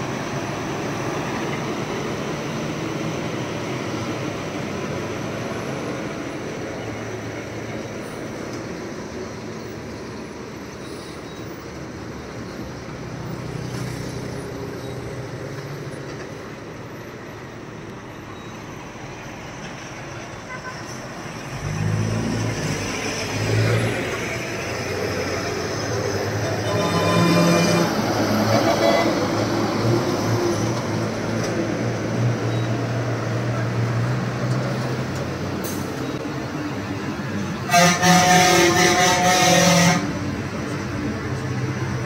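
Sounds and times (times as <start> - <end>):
heavy diesel engines droning: 0.0 - 42.0.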